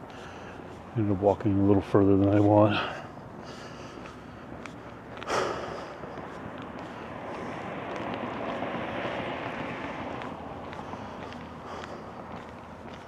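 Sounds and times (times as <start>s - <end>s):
passing vehicle road noise: 0.0s - 13.0s.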